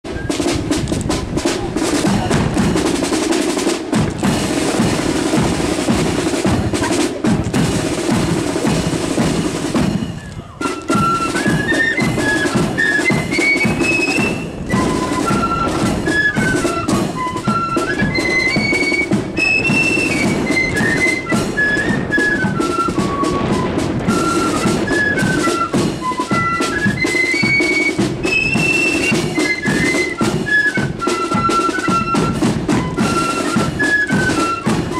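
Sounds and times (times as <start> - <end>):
flutes playing high tune: 0.0 - 3.1, 4.2 - 34.9
snare and bass drums marching: 0.0 - 34.9.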